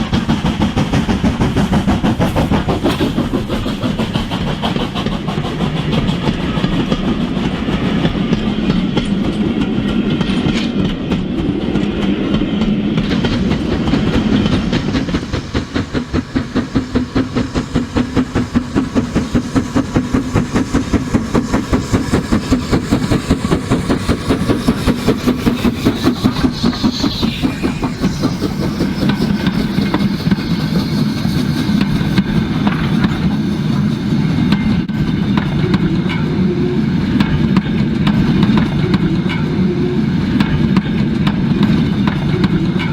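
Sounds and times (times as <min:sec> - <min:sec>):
steam locomotive chuffing: 0:00.0 - 0:42.9
steam locomotive rumble: 0:00.0 - 0:42.9.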